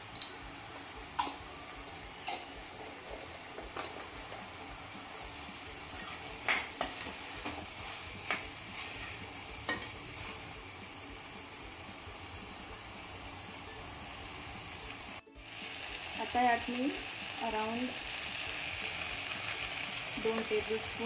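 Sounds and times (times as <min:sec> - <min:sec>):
vegetables sizzling in a pan: 0:00.0 - 0:21.0.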